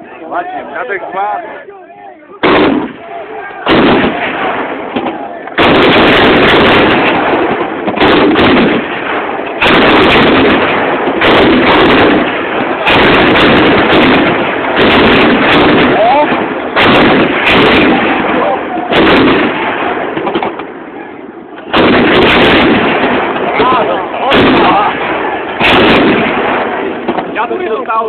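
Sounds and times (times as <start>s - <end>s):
artillery guns firing: 2.4s - 28.0s.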